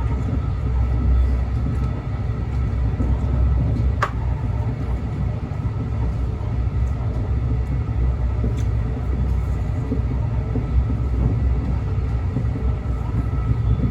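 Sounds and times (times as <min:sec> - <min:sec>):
train rumbling: 0:00.0 - 0:13.9.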